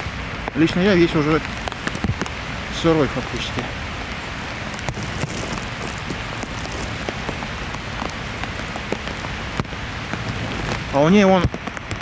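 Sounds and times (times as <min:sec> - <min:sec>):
heavy rain falling: 0:00.0 - 0:12.0
sharp taps of raindrops: 0:00.0 - 0:12.0.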